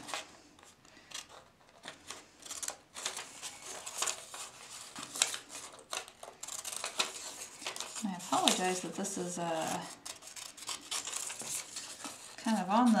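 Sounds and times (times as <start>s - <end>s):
small scissors snipping paper: 1.1s - 8.9s, 9.5s - 13.0s.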